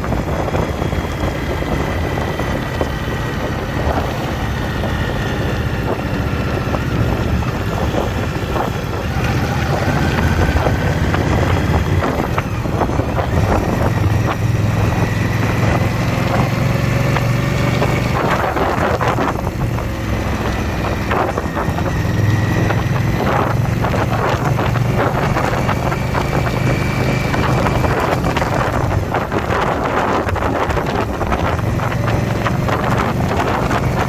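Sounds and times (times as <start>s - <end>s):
motorcycle engine running: 0.0s - 34.0s
wind on microphone: 0.0s - 34.0s.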